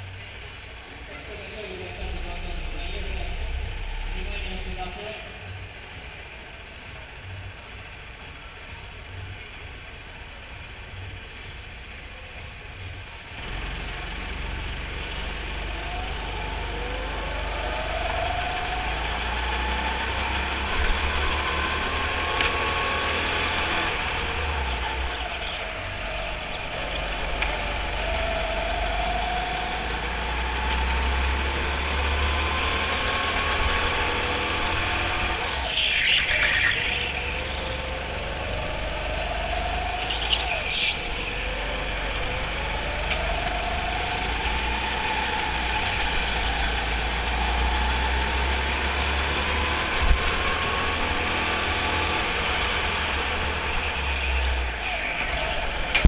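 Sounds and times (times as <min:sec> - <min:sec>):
go-kart engine: 0:00.0 - 0:56.0.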